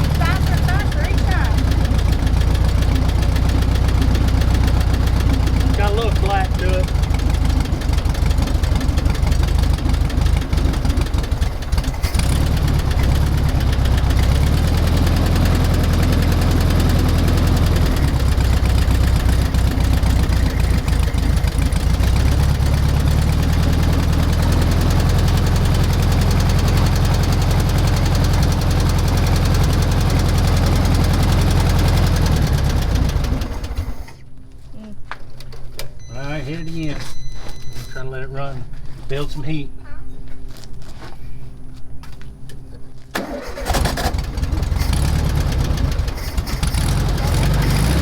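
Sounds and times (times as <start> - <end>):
car engine revving: 0.0 - 34.2, 43.2 - 48.0.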